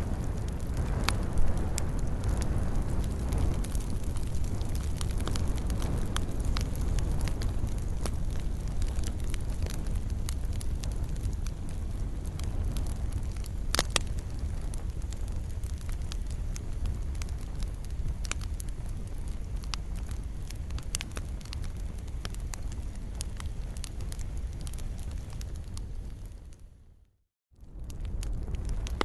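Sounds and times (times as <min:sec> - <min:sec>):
fire crackling pops and snaps: 0:00.0 - 0:29.0
low rumble of flames: 0:00.0 - 0:29.0.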